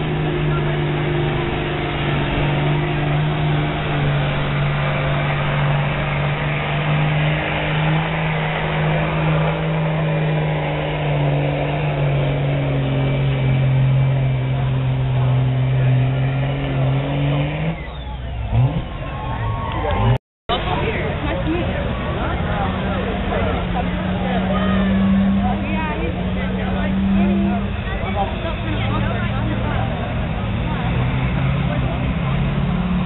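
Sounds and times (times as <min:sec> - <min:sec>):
truck engine at high revs: 0:00.0 - 0:33.0.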